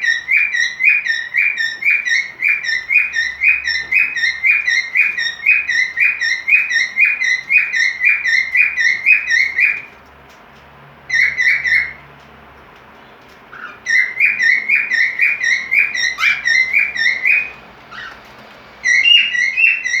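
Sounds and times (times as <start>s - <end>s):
cockatiel chirping: 0.0s - 9.9s, 11.1s - 12.0s, 13.5s - 20.0s.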